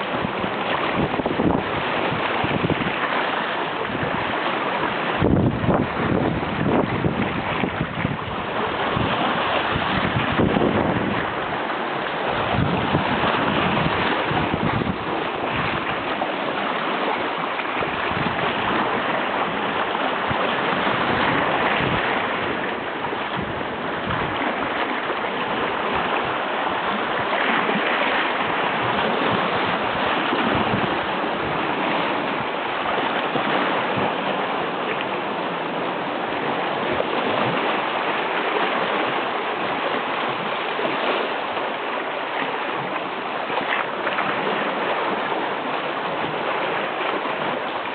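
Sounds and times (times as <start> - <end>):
sea waves rushing: 0.0 - 47.9.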